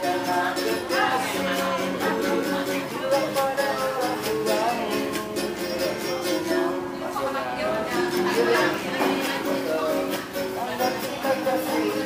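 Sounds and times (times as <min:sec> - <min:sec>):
music with plucked strings: 0:00.0 - 0:12.0
person singing: 0:00.0 - 0:12.0.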